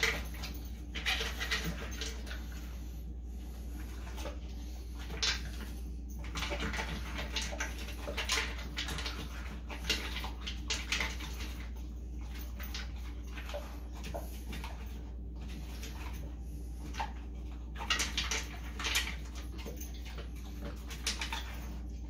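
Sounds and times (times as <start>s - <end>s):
dog crunching food: 0.0s - 2.6s, 3.7s - 22.0s.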